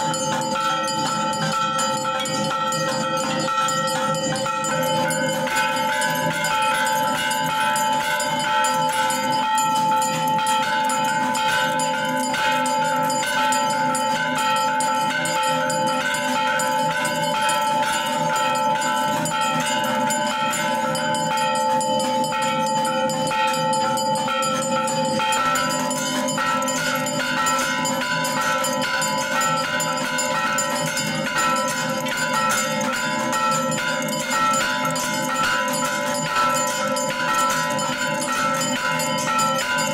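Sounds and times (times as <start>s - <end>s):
temple bells ringing: 0.0s - 39.9s.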